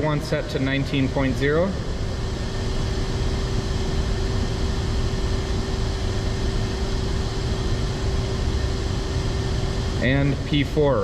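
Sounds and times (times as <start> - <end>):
constant mid-pitched tone: 0.0 - 11.0
machinery hum: 0.0 - 11.0.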